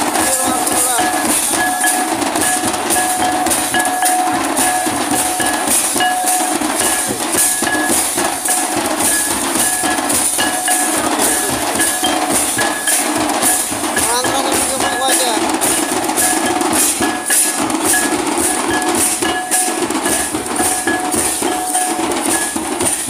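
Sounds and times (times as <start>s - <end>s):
clashing metal percussion: 0.0s - 23.0s
large drums beating: 0.0s - 23.0s.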